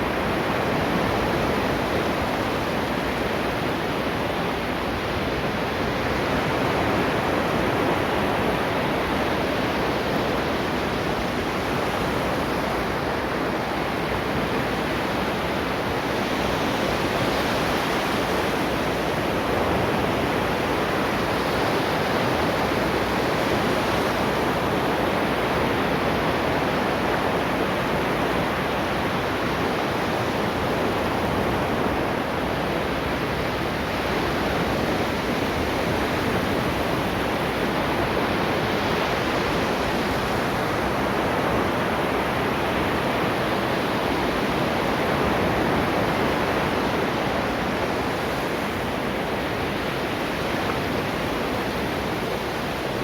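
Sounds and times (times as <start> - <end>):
ocean waves on shore: 0.0 - 53.0.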